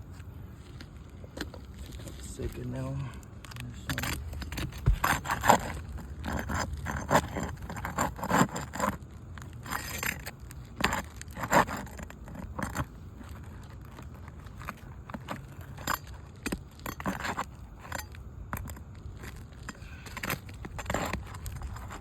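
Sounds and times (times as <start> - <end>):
metal tool scraping shingles: 1.4 - 22.0.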